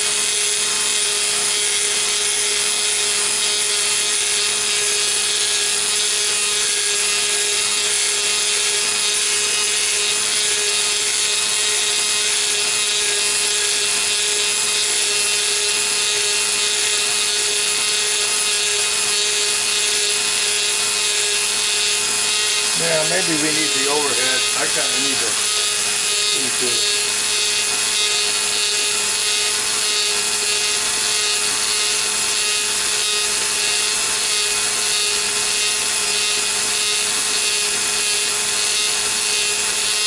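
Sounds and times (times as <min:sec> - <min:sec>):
grinder running with hissing grind: 0:00.0 - 0:40.0.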